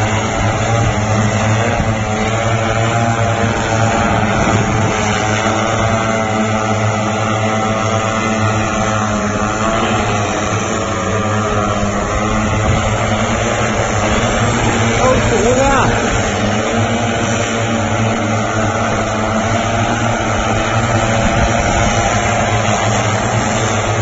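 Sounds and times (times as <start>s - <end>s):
multirotor propellers buzzing: 0.0s - 24.0s.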